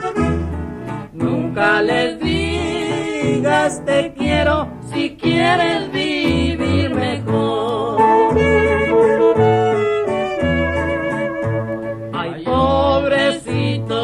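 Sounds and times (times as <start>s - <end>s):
accordion: 0.0s - 14.0s
person singing with vibrato: 0.0s - 14.0s.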